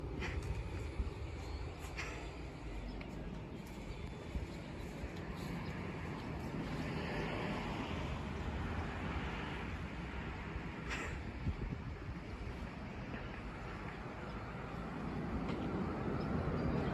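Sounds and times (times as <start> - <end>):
distant jet airliner rumble: 0.0 - 16.9.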